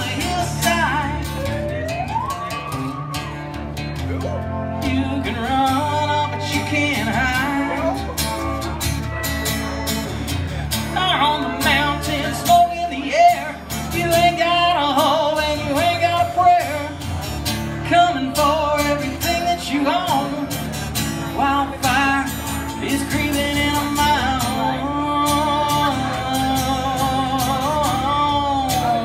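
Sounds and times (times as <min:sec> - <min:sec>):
acoustic guitar: 0:00.0 - 0:29.0.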